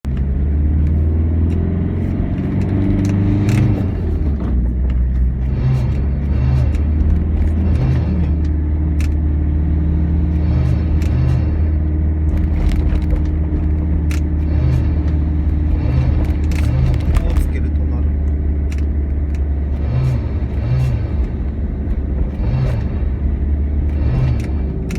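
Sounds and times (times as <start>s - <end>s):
van engine drone: 0.0s - 24.9s.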